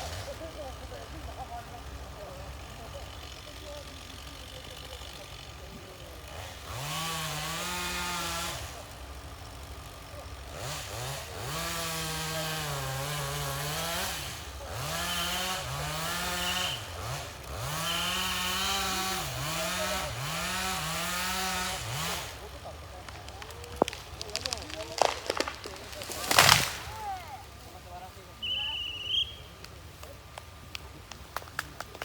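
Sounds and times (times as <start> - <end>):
machine engine rumble: 0.0 - 7.6, 12.7 - 32.0
saw cutting logs: 0.0 - 31.3.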